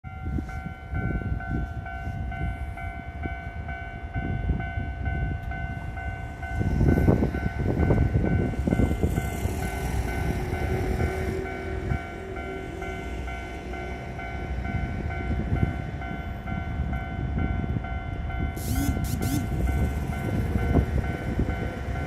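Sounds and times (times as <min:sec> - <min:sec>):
level crossing warning bell ringing: 0:00.0 - 0:22.0
train wheels rumbling on rails: 0:00.1 - 0:22.0.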